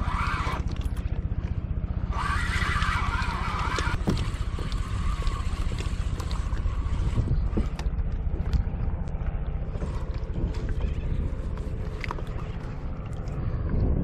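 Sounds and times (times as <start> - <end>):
water sloshing against hull: 0.0 - 14.0
wind buffeting microphone: 0.9 - 14.0.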